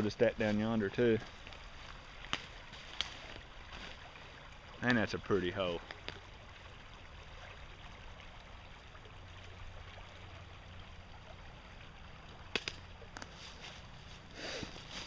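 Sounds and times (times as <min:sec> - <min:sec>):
creek water flowing over pebbles: 0:00.0 - 0:15.0.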